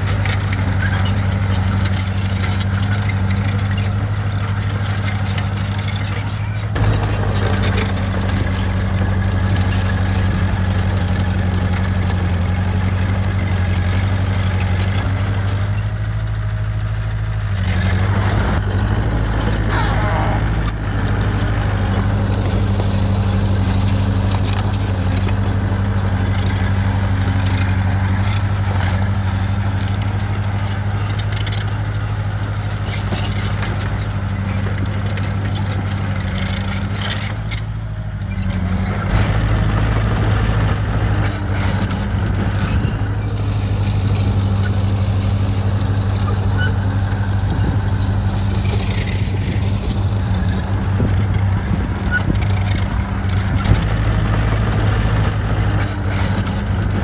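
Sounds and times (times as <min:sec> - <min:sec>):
heavy diesel engine running: 0:00.0 - 0:57.0
metallic clanking and rattling: 0:00.0 - 0:57.0.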